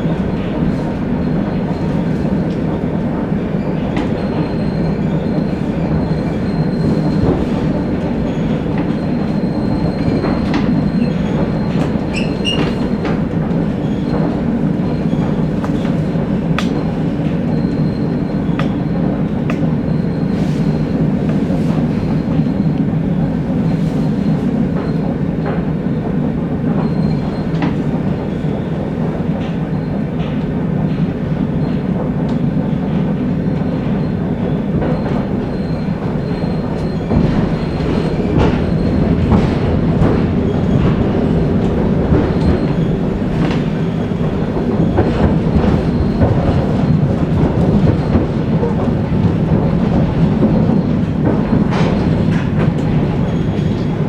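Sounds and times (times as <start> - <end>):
train heavy rumble: 0.0 - 54.0.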